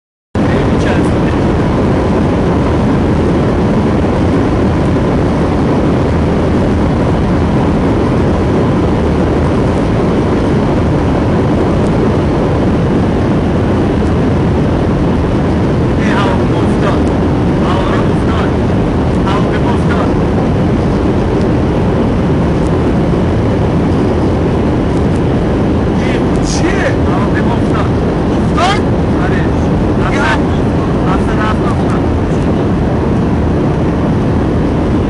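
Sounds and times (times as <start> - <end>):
aircraft engine and airflow noise: 0.4 - 35.0
faint steady whine: 0.4 - 35.0.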